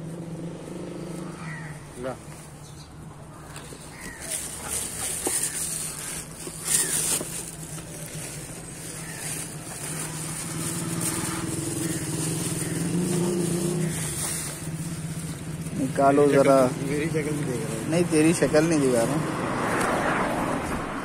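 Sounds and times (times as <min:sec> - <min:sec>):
vehicle engine running: 0:00.0 - 0:19.3.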